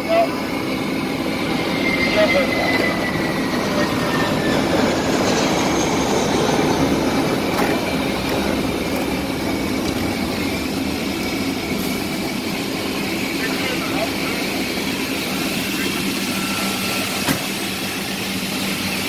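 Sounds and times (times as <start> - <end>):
jet engine with whine: 0.0 - 19.0.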